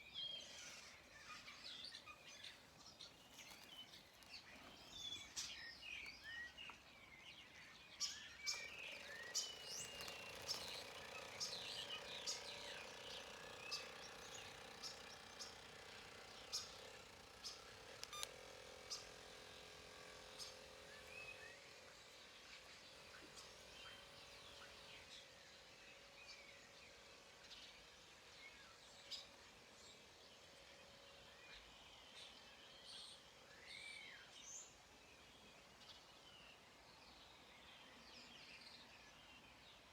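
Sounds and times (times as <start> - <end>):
birds chirping: 0.0 - 39.9
faint motor hum: 0.0 - 39.9.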